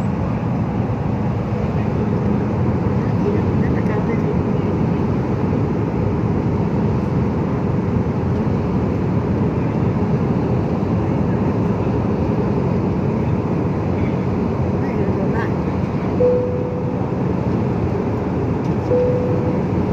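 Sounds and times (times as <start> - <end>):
jet cabin engine and airflow noise: 0.0 - 19.9.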